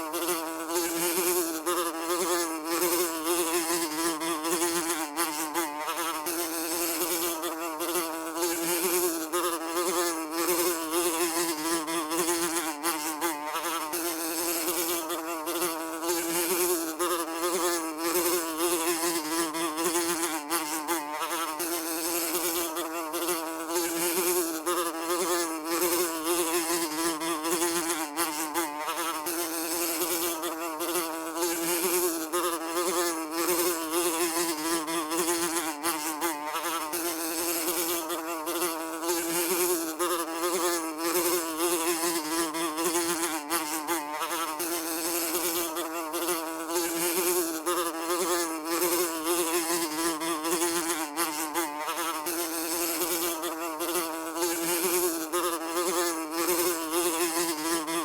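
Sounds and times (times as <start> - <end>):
fly buzzing: 0.0 - 58.0.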